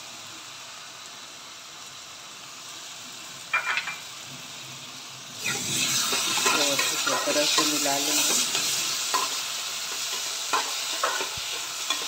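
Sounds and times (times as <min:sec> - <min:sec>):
vegetables sizzling in pan: 0:00.0 - 0:12.0.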